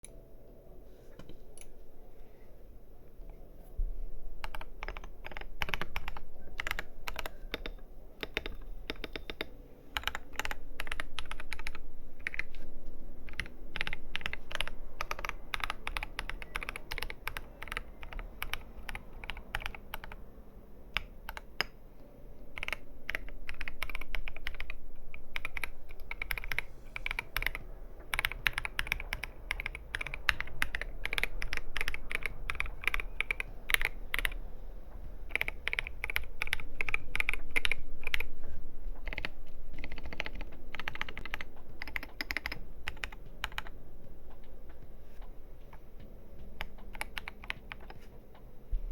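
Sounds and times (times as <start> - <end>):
mechanical keyboard keys pressed: 4.4 - 20.2, 20.9 - 21.8, 22.5 - 34.4, 35.2 - 48.1.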